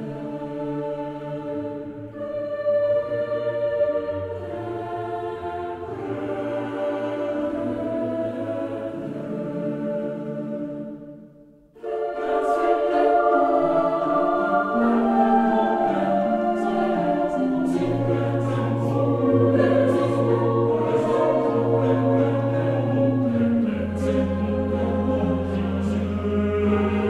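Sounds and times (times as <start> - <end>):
choir singing sustained chords: 0.0 - 27.0.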